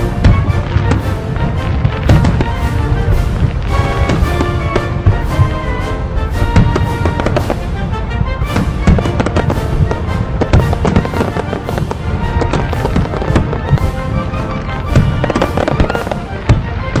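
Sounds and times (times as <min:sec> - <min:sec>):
fireworks bangs: 0:00.0 - 0:17.0
music playing: 0:00.0 - 0:17.0.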